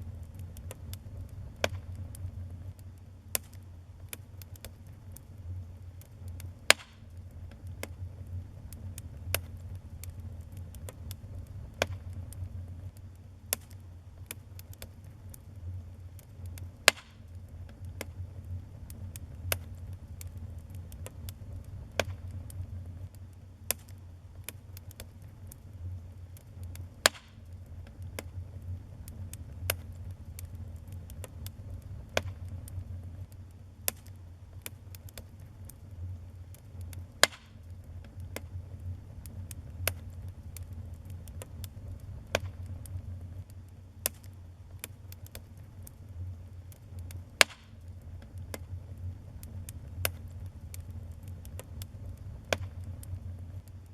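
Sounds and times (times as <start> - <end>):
burning logs popping and crackling: 0.0 - 53.9
fire flames rumbling: 0.0 - 53.9.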